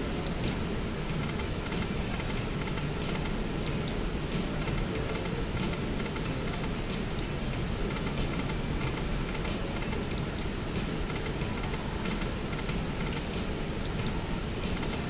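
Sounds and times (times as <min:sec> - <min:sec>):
slot machine reels ticking: 0:00.0 - 0:15.0.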